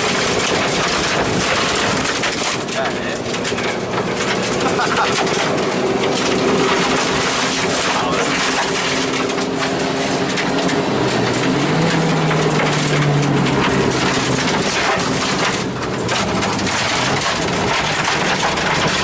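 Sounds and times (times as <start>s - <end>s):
rally car engine drone: 0.0s - 19.0s
tyres crunching gravel: 0.0s - 19.0s.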